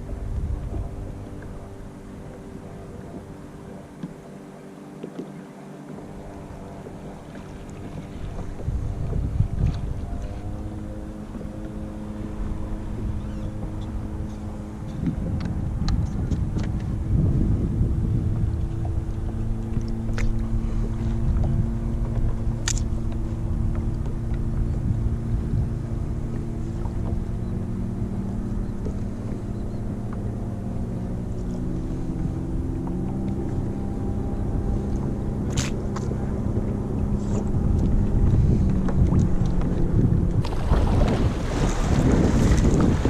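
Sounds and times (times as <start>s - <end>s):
boat engine droning: 0.0s - 43.0s
wind rumbling on microphone: 0.0s - 43.0s.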